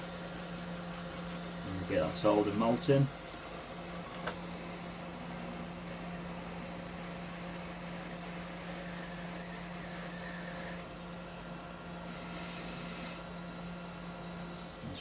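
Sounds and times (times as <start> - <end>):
hot air blower hum and hiss: 0.0 - 15.0.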